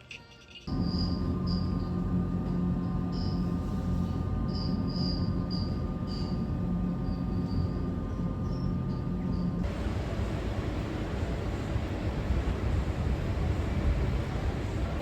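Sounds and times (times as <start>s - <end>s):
rail car humming: 0.7s - 15.0s.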